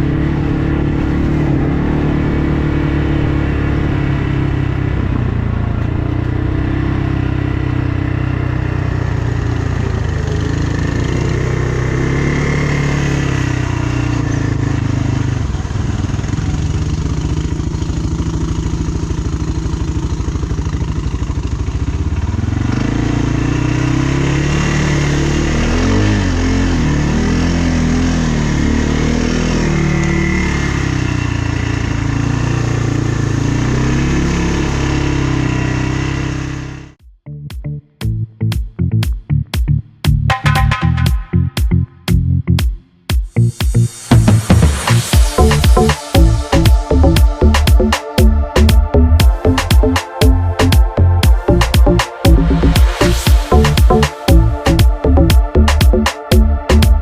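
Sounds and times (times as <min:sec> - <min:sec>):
atv engine revving: 0:00.0 - 0:37.0, 0:43.8 - 0:57.0.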